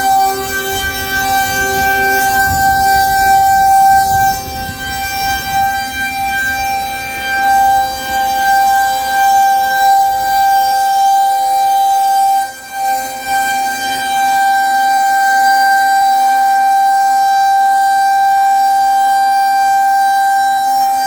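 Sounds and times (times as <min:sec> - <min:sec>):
warning siren steady tone: 0:00.0 - 0:21.0.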